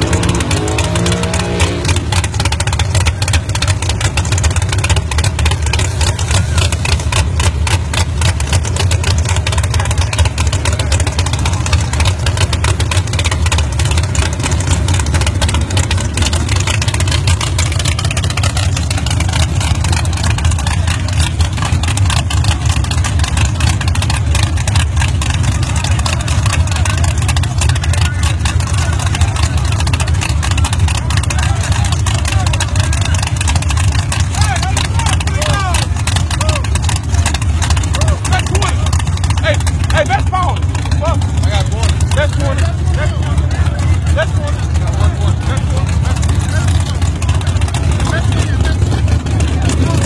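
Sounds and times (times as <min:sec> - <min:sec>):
car engine idling loudly: 0:00.0 - 0:50.0.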